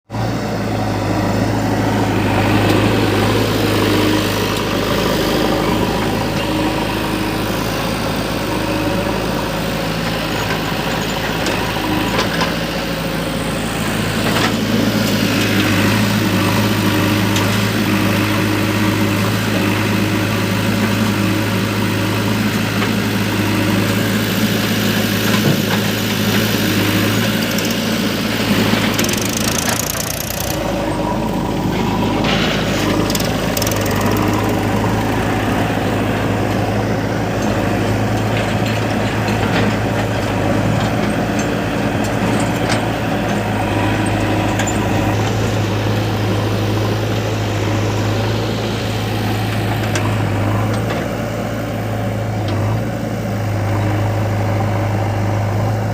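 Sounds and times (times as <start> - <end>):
diesel engine running steadily: 0.0 - 55.9.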